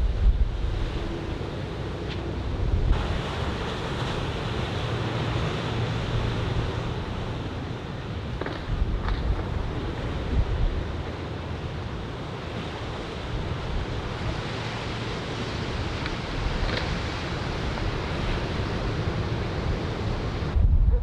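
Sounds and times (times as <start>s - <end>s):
ocean surf washing onto beach: 0.0s - 20.6s.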